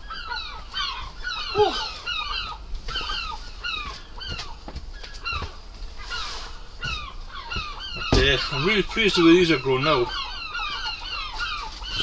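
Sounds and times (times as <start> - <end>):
birds chirping: 0.0 - 12.0
low bird call: 0.0 - 12.0.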